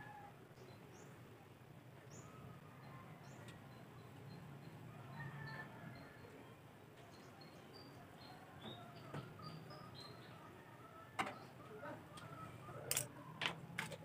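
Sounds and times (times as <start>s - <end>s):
birds chirping: 0.4s - 13.4s.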